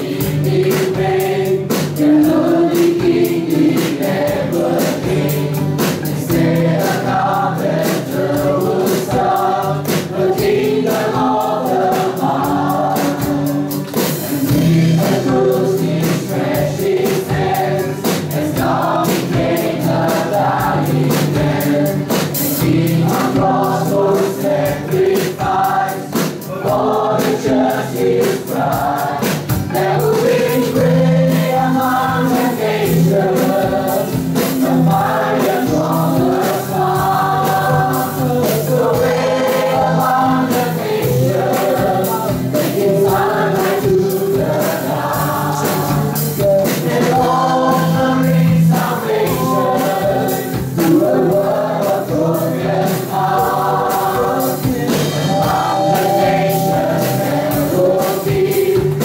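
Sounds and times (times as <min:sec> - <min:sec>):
bass guitar: 0:00.0 - 0:59.0
drum kit steady beat: 0:00.0 - 0:59.0
woman and men singing: 0:00.0 - 0:59.0.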